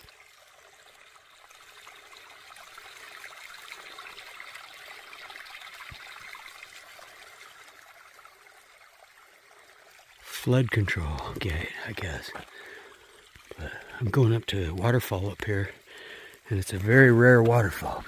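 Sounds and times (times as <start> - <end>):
water rushing through gate: 0.0 - 18.0.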